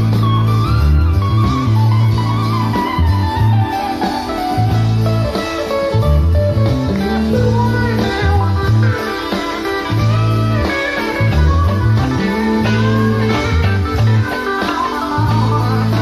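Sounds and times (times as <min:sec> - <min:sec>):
bass line: 0:00.0 - 0:16.0
jazz-funk band playing: 0:00.0 - 0:16.0.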